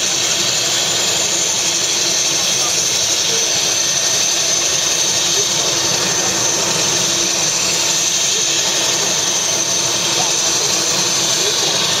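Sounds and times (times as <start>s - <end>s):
helicopter rotor rushing: 0.0s - 12.0s
helicopter turbine whine: 0.0s - 12.0s.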